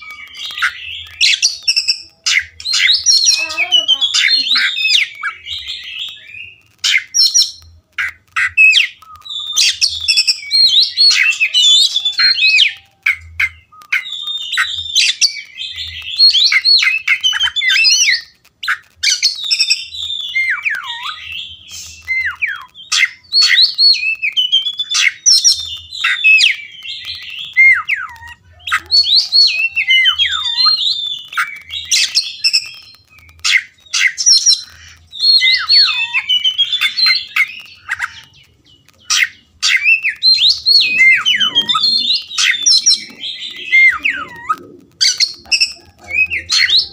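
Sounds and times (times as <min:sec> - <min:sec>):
bird singing whistles and chirps: 0:00.0 - 0:46.9.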